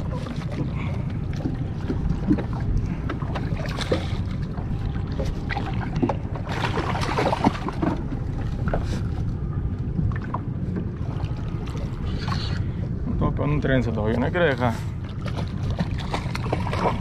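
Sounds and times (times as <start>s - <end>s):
boat motor running: 0.0s - 17.0s
water noise: 0.0s - 17.0s
wind: 0.0s - 17.0s.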